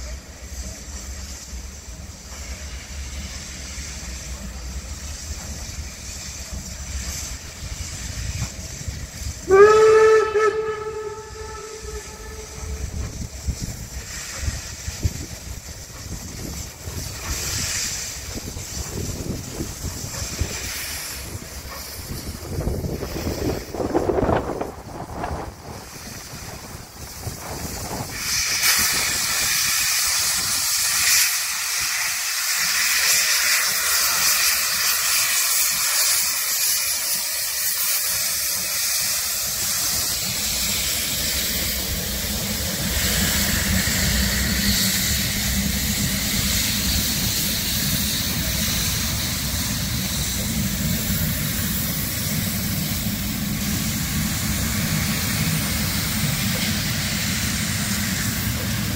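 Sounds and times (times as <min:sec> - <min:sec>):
steam locomotive hissing: 0:00.0 - 0:58.9
train wheels rumbling on track: 0:00.0 - 0:58.9.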